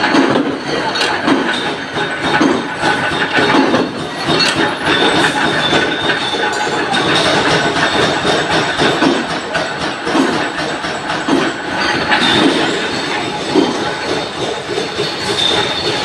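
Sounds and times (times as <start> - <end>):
industrial machinery running: 0.0 - 16.0
metallic clinks and knocks: 0.0 - 16.0.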